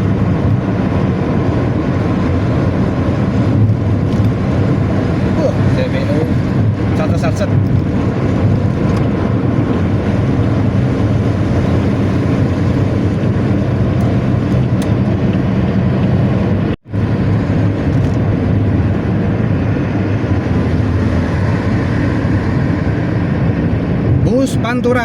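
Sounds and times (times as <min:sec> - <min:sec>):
bus diesel engine rumbling: 0:00.0 - 0:25.0.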